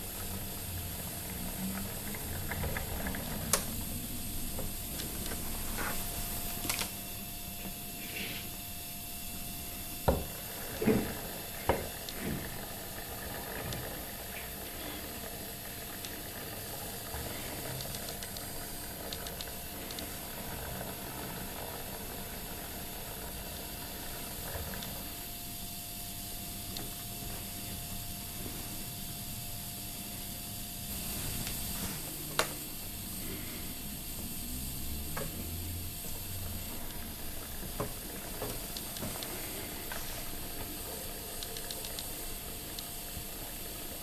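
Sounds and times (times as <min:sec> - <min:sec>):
turntable motor hissing and humming: 0:00.0 - 0:44.0.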